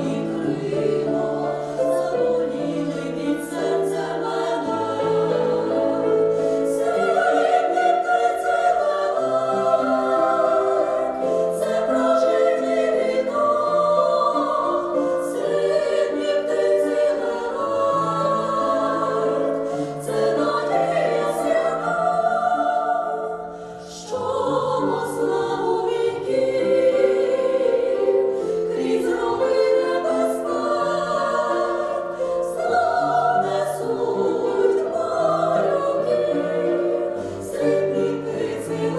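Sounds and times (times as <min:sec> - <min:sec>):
vocal ensemble singing: 0:00.0 - 0:38.9.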